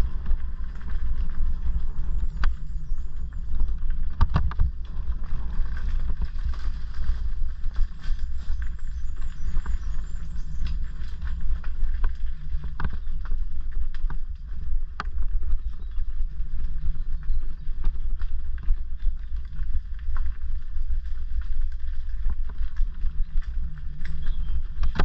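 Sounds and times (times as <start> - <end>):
bike tyres rumbling on gravel: 0.0 - 25.0.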